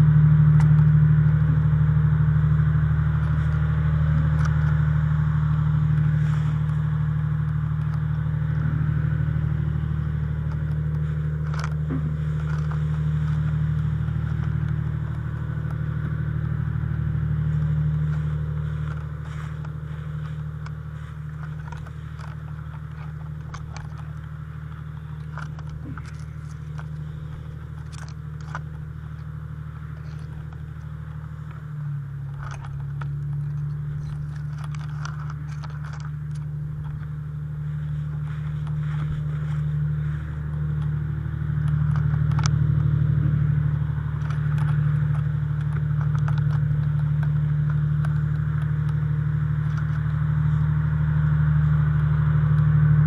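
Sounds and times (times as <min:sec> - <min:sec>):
fire engine engine running: 0:00.0 - 0:53.0
footsteps crunching dry leaves: 0:05.4 - 0:48.8.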